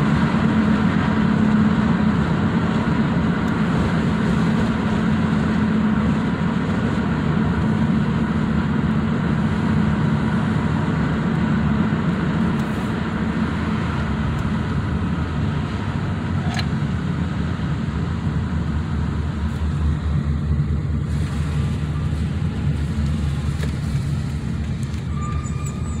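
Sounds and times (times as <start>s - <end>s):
car road noise from inside: 0.0s - 26.0s.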